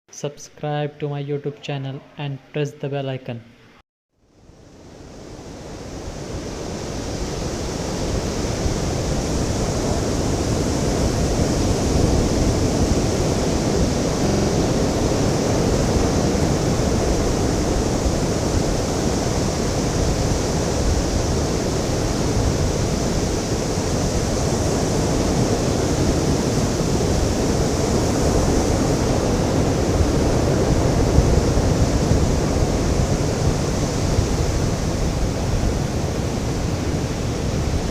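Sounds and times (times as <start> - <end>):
ocean waves breaking: 4.6 - 37.9.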